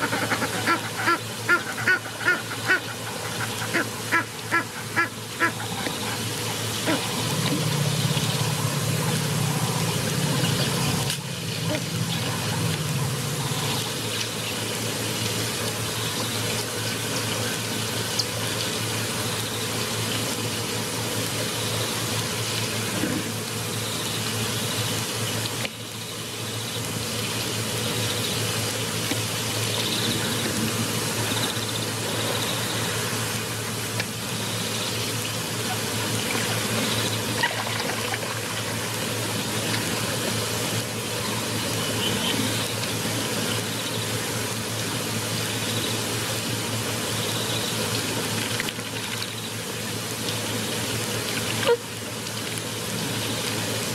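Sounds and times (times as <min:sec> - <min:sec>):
low steady hum: 0:00.0 - 0:53.9
rushing water: 0:00.0 - 0:53.9.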